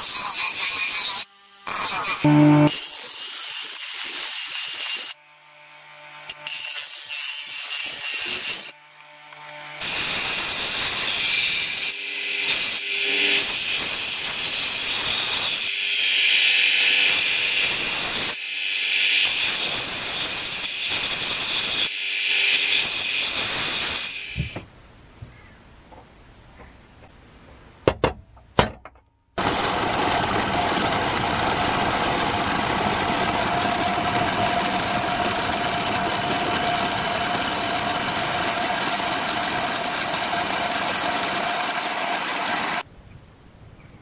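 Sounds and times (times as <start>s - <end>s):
belt sander sanding blade: 0.0s - 24.6s, 29.4s - 42.8s
bench grinder grinding steel: 0.0s - 24.6s, 29.4s - 42.8s.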